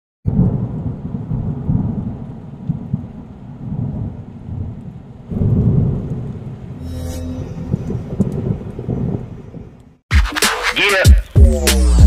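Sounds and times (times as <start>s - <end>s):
thunder rumbling: 0.3s - 10.0s.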